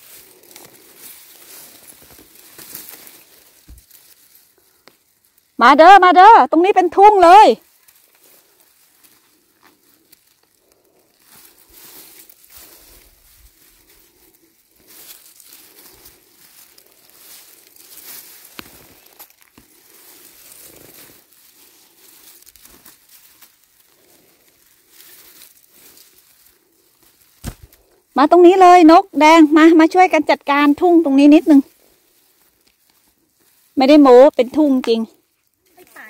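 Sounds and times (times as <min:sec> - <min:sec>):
rustling in dry undergrowth: 0:00.0 - 0:36.0.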